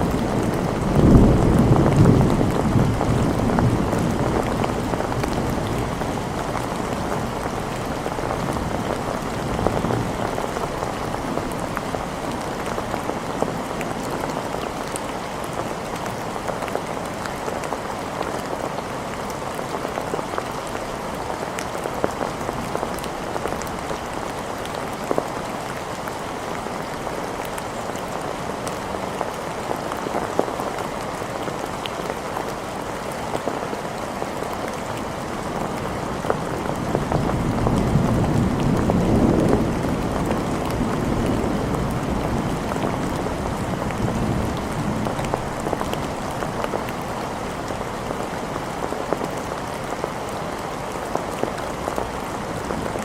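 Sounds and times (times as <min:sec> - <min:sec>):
rain on hard surfaces: 0:00.0 - 0:53.0.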